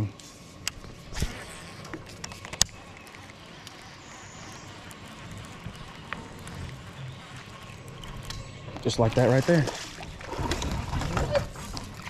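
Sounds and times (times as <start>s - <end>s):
fishing reel ticking: 0.7s - 10.7s.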